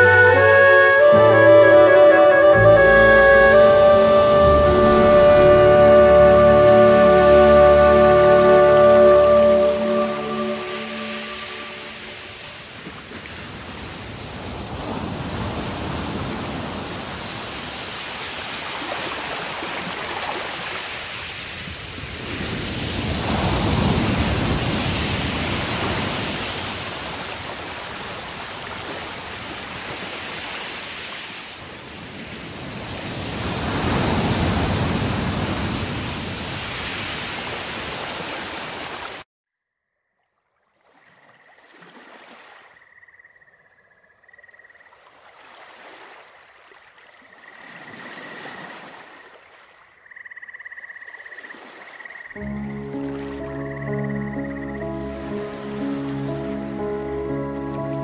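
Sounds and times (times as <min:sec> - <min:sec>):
waves rushing: 0:00.0 - 0:39.2, 0:45.1 - 0:49.9, 0:51.4 - 0:58.0.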